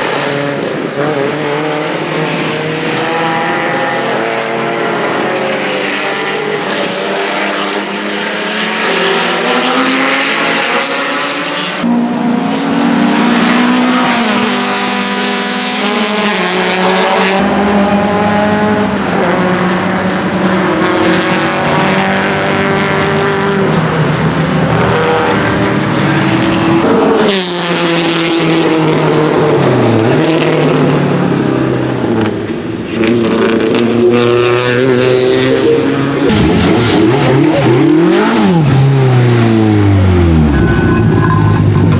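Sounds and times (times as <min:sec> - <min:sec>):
car engine at full throttle: 0:00.0 - 0:41.9.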